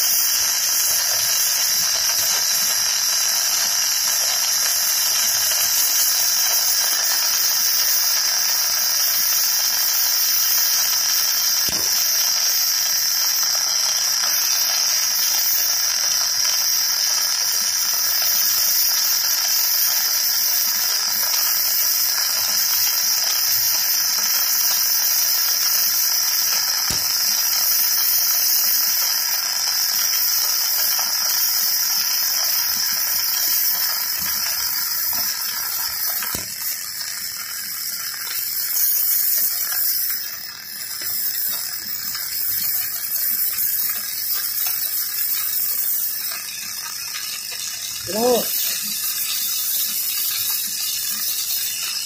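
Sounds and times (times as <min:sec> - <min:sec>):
welding arc hissing: 0:00.0 - 0:52.0.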